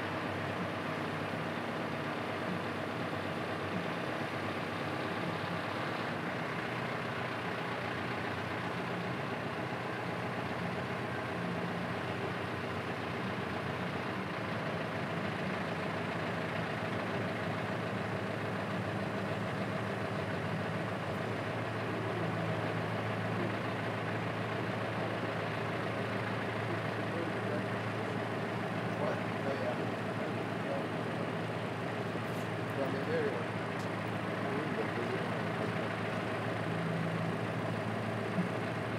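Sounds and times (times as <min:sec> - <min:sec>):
ferry engine droning: 0:00.0 - 0:38.9.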